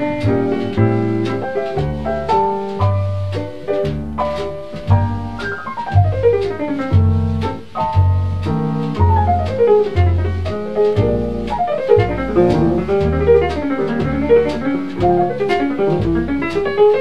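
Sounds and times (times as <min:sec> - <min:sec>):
bass notes: 0:00.0 - 0:17.0
jazz piano runs: 0:00.0 - 0:17.0.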